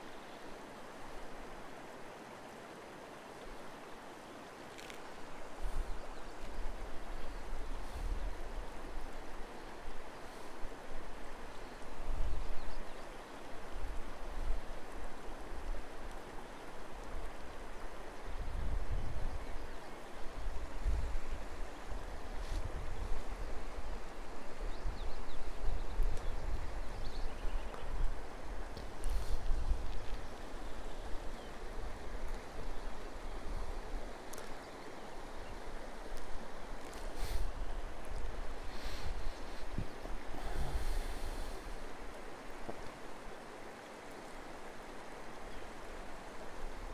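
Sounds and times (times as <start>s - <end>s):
river water rushing over stones: 0.0s - 46.9s
wind rumbling on microphone: 4.8s - 43.5s.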